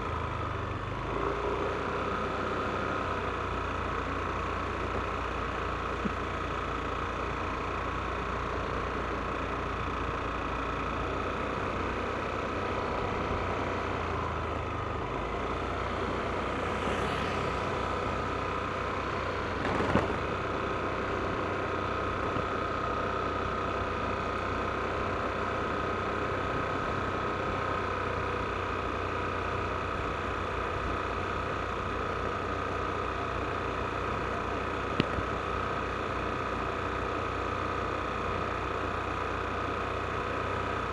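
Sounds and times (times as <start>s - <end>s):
road noise: 0.0s - 40.9s
scooter engine running: 0.0s - 40.9s.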